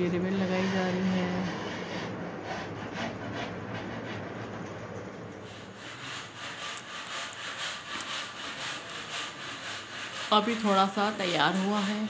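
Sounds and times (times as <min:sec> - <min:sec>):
rhythmic scraping on wood: 0:00.0 - 0:12.0.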